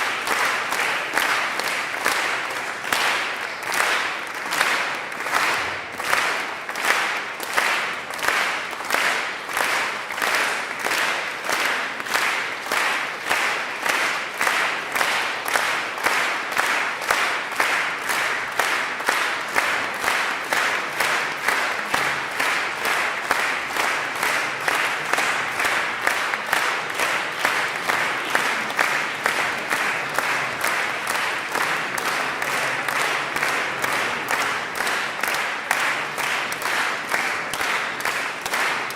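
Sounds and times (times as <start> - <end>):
audience clapping in unison: 0.0 - 38.9.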